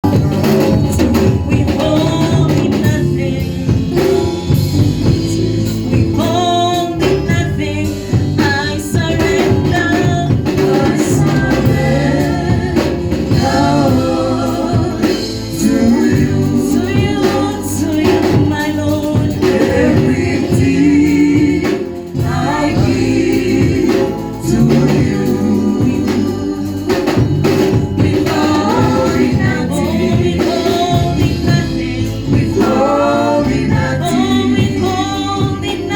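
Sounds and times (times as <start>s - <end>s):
band with drums: 0.0s - 35.9s
group singing gospel: 0.0s - 35.9s.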